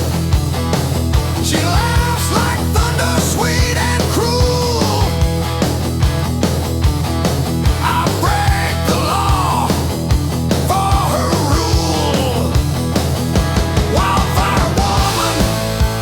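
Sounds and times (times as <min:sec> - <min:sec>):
driving drum beat: 0:00.0 - 0:16.0
hard rock music: 0:00.0 - 0:16.0.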